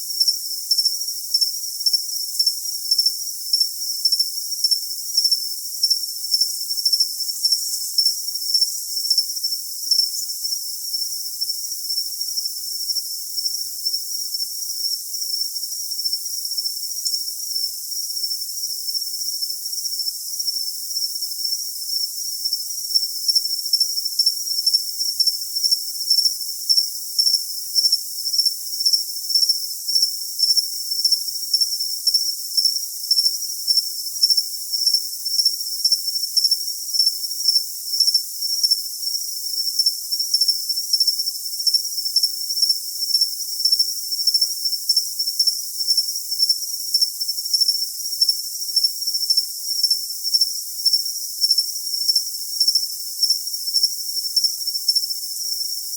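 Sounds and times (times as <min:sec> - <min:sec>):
cricket chirping: 0:00.0 - 0:55.9.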